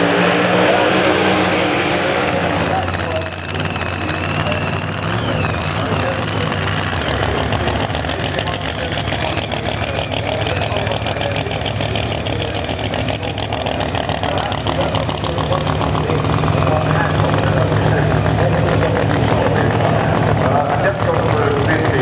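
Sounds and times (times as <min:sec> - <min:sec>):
drag car engine idling: 0:01.8 - 0:22.0.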